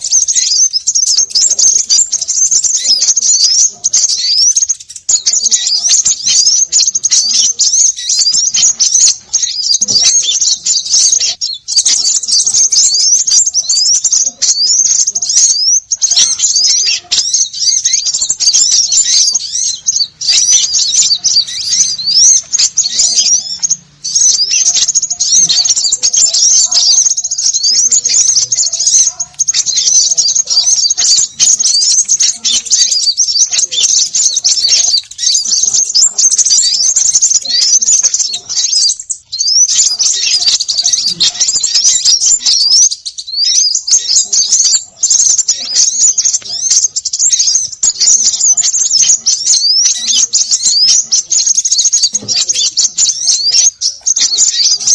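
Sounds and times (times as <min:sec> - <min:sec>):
small birds chattering: 0:00.0 - 0:54.9.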